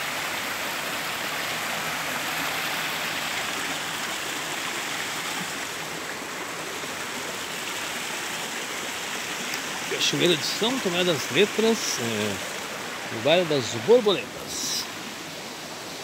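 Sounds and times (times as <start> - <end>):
water rushing over stones: 0.0 - 16.0.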